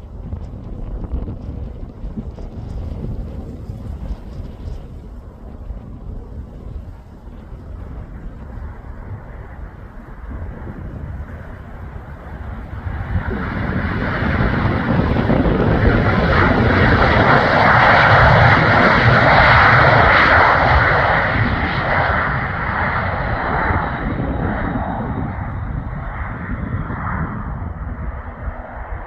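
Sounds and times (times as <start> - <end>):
airplane engines passing: 0.0 - 29.0.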